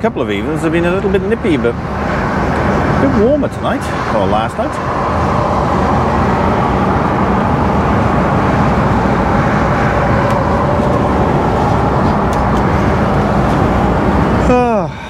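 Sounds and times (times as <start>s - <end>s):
lorry engine noise: 0.0s - 15.0s
road noise: 0.0s - 15.0s.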